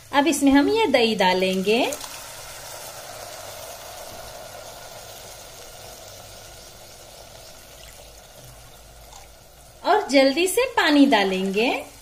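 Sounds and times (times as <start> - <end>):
soft sizzling in hot oil: 0.0 - 12.0.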